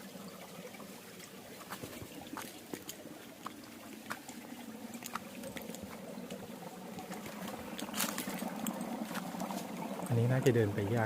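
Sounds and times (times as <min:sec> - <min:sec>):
small sharp splashes and drips: 0:00.0 - 0:11.0
stream trickling over rocks: 0:00.0 - 0:11.0.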